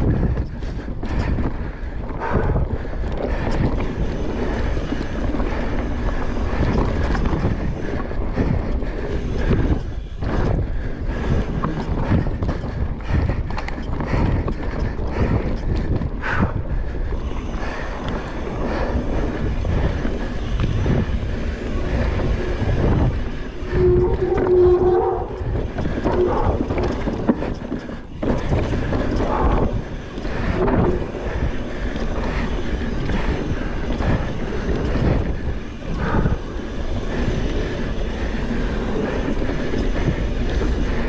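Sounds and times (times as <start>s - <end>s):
bike rattling over bumps: 0.0s - 41.0s
wind buffeting microphone: 0.0s - 41.0s.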